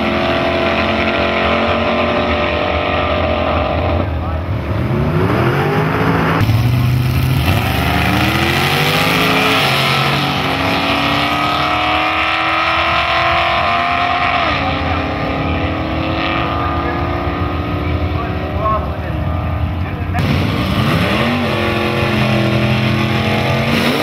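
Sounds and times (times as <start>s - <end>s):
drag car engines accelerating: 0.0s - 24.0s.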